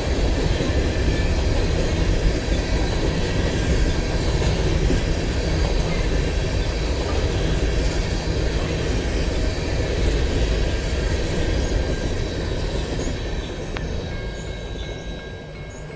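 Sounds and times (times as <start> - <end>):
train railcars rumbling past: 0.0 - 15.9.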